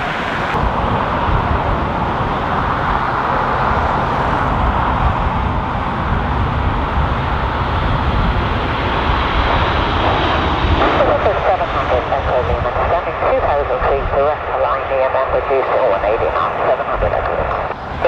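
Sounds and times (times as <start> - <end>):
jet engine noise: 0.0 - 18.0
wind rumbling on microphone: 0.0 - 18.0.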